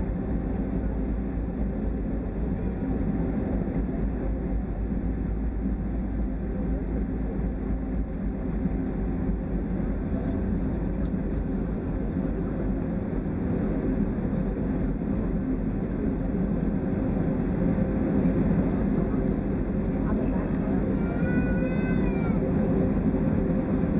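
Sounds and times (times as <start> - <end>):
jet engine cabin noise: 0.0 - 23.9.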